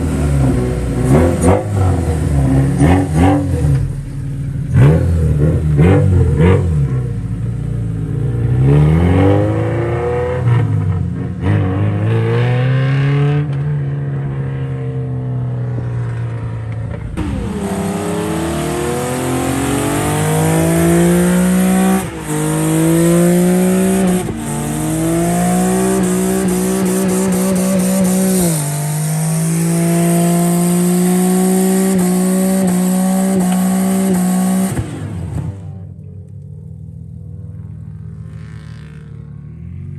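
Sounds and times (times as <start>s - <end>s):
car engine revving hard: 0.0s - 13.6s, 17.2s - 35.9s.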